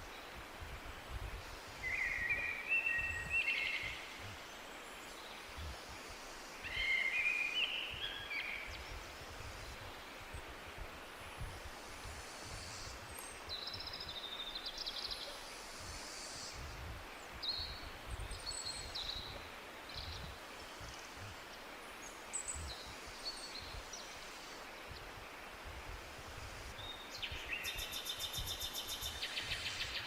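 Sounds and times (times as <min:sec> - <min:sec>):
outdoor hiss: 0:00.0 - 0:30.0.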